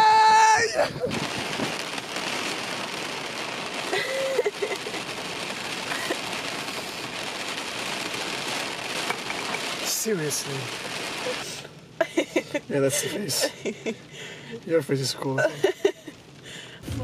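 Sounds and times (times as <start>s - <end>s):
rain on car roof: 0.0s - 17.0s.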